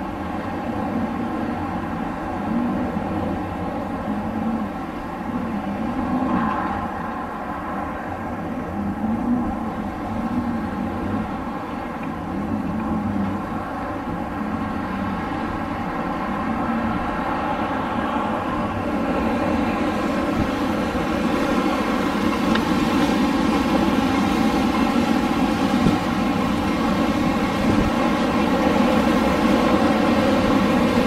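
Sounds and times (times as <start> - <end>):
wind blowing: 0.0 - 31.0.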